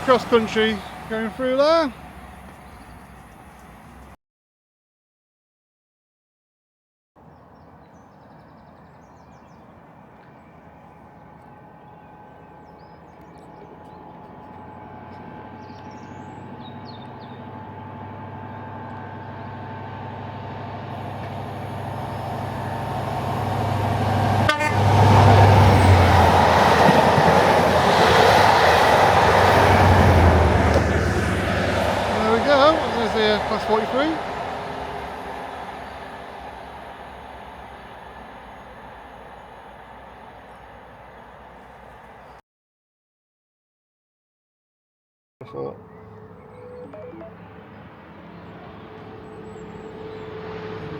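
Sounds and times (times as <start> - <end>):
diesel train engine drone: 0.0 - 4.2, 7.2 - 42.4, 45.4 - 50.9
wheels rushing on rail: 0.0 - 4.2, 7.2 - 42.4, 45.7 - 50.9.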